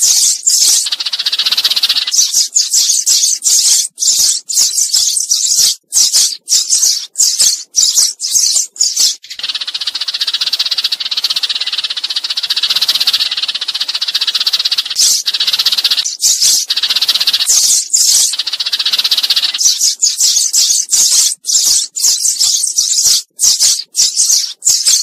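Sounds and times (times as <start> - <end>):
sparrow chattering rattle: 0.0 - 25.0
sparrow high chirps: 0.0 - 25.0.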